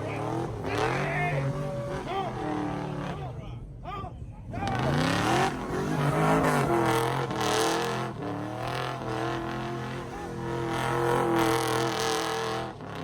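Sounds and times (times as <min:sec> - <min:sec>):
pickup truck engine running: 0:00.0 - 0:12.7.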